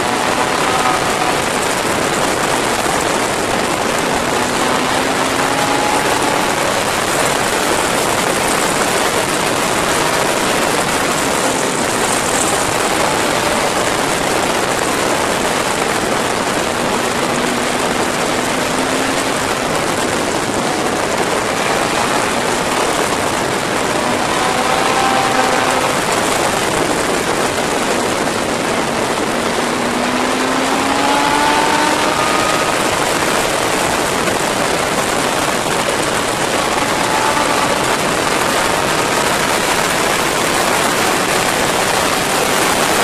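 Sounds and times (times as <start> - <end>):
faint motorcycle engine: 0.0 - 43.0
wind rushing over microphone: 0.0 - 43.0.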